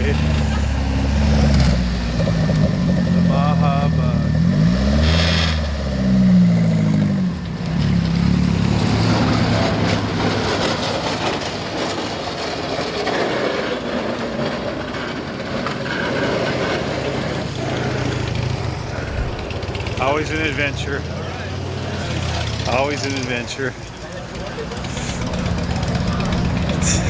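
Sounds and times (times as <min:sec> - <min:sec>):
car engine passing by: 0:00.0 - 0:13.8, 0:15.7 - 0:27.0.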